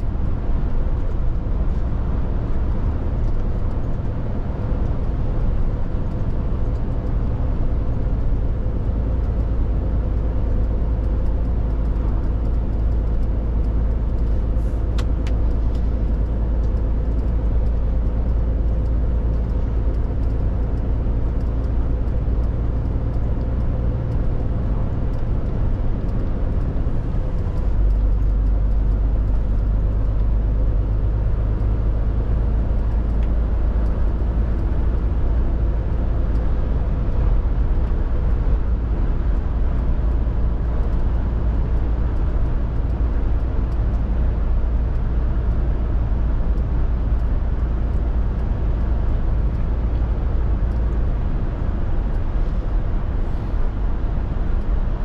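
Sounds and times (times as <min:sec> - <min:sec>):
lorry diesel engine: 0:00.0 - 0:55.0
road and tyre noise: 0:00.0 - 0:55.0.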